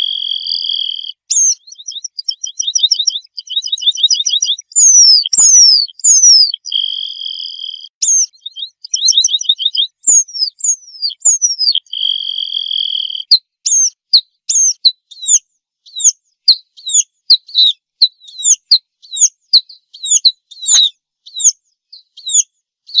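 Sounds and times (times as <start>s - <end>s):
pipit calling: 0.0s - 21.6s.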